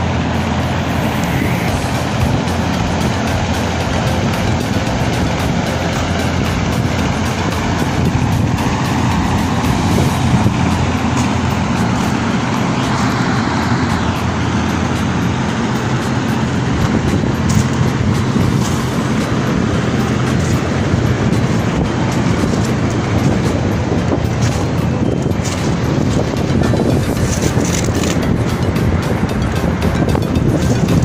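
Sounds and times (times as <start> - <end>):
continuous rushing noise: 0.0 - 31.0
low motor hum: 0.0 - 31.0.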